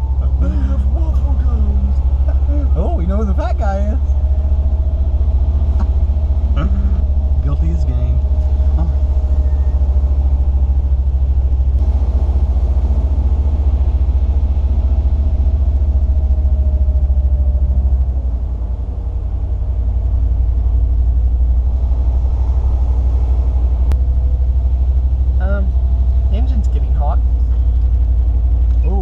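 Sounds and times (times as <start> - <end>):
vehicle driving on sand: 0.0 - 29.0.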